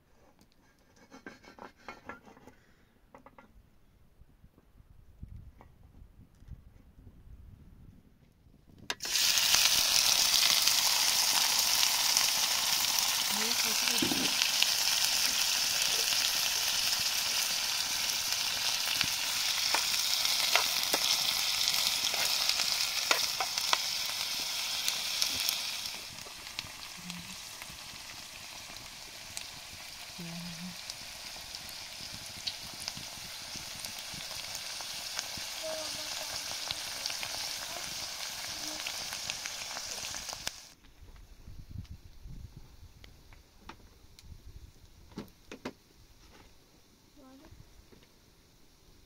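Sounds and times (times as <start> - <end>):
steady hiss with crackles: 8.7 - 49.0.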